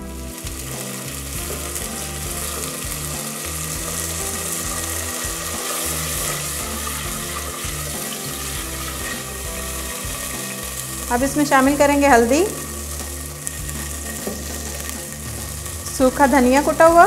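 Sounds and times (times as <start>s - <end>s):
background music: 0.0s - 17.0s
oil sizzling in pot: 0.0s - 17.0s.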